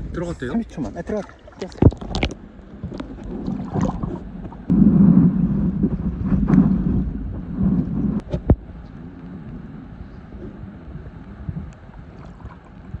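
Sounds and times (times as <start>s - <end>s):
muffled underwater sloshing: 0.0s - 13.0s.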